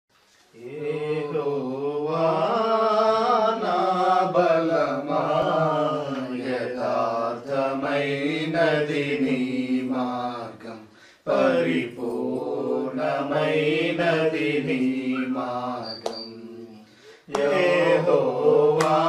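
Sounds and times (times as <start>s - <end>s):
men singing a hymn: 0.3s - 19.0s.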